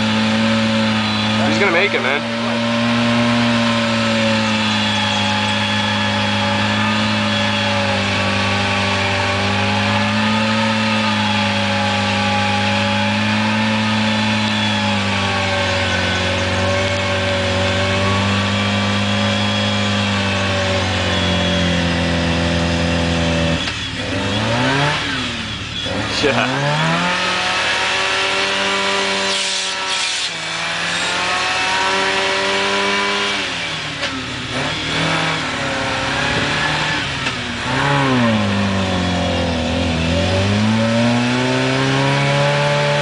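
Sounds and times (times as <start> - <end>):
car engine at high revs: 0.0 - 43.0.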